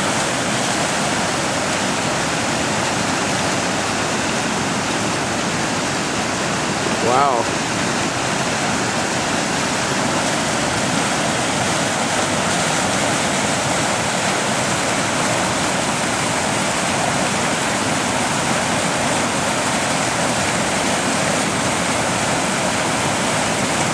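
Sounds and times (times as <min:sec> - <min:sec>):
fast-moving water rushing: 0:00.0 - 0:23.9.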